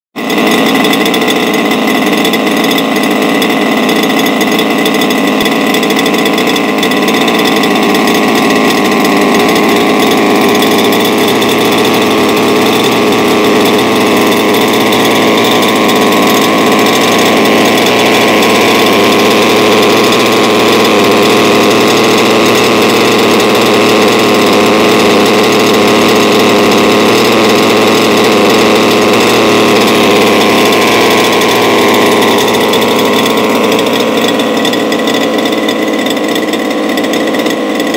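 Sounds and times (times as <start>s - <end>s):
two-stroke engine running: 0.2s - 37.9s.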